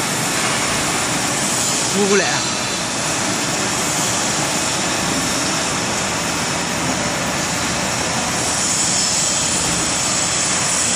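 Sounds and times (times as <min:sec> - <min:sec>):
machinery rushing noise: 0:00.0 - 0:10.9.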